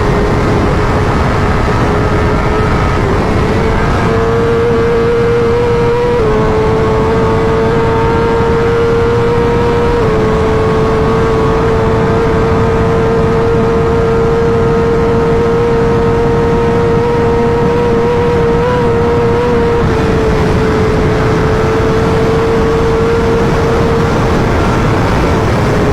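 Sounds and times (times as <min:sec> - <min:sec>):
motorcycle engine running at speed: 0:00.0 - 0:25.9
wind noise: 0:00.0 - 0:25.9.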